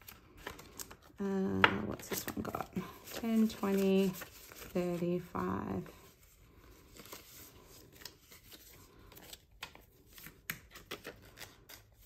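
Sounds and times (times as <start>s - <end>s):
banknotes rustling: 0.0s - 12.0s.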